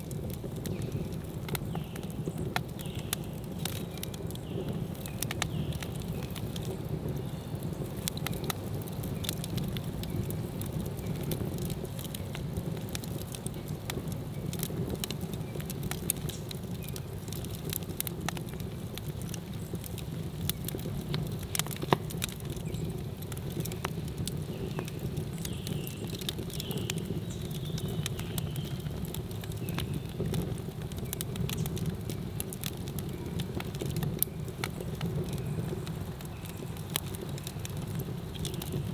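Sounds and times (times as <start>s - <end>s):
fire crackling and popping: 0.0s - 38.9s
fire roaring: 0.0s - 38.9s.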